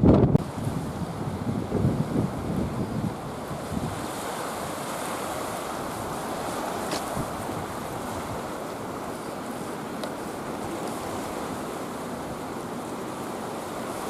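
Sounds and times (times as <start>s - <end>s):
rough surf: 0.0s - 14.0s
strong wind: 0.0s - 14.0s.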